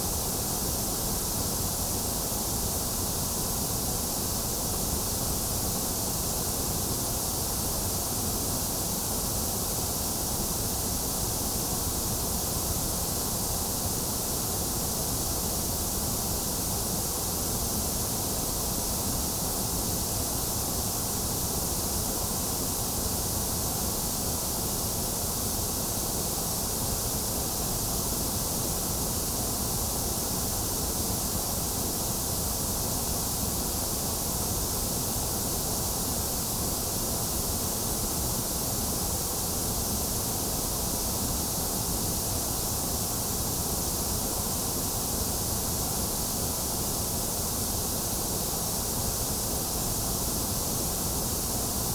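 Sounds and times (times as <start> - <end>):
electronic white noise hiss: 0.0 - 51.9.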